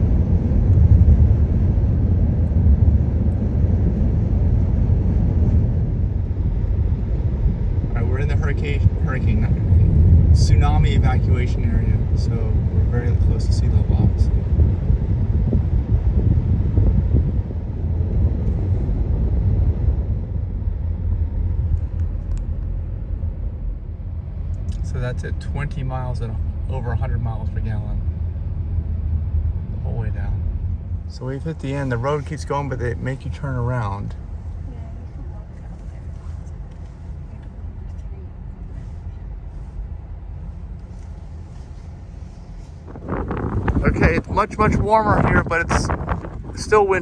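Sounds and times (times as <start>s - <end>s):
car interior road rumble: 0.0s - 47.0s.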